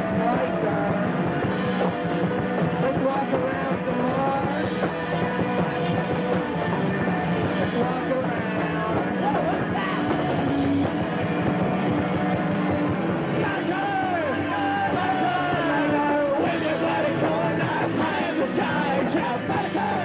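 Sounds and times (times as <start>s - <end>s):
drums: 0.0s - 20.0s
electric guitars: 0.0s - 20.0s
keyboard: 0.0s - 20.0s.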